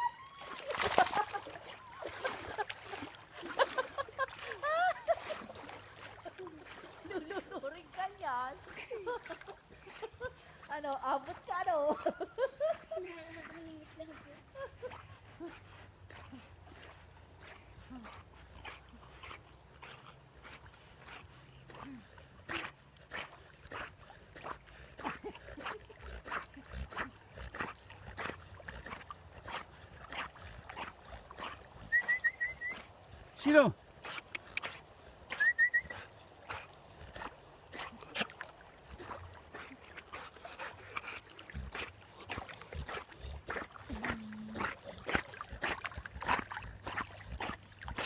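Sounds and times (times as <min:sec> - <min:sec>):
dog paddling in water: 0:00.0 - 0:48.0.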